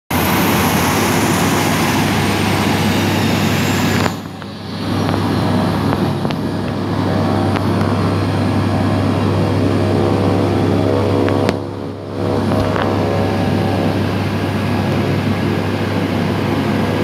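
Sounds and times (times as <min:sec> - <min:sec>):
turboprop engines with turbine whine: 0:00.1 - 0:17.0.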